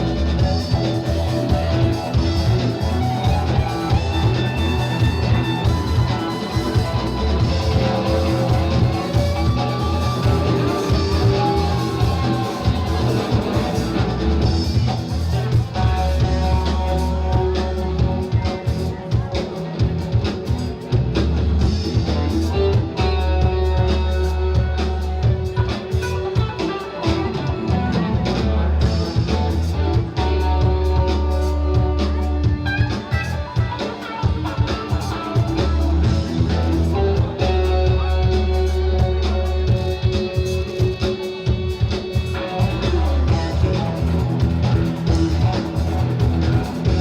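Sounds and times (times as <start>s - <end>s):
rock music with guitar and drums: 0.0s - 47.0s.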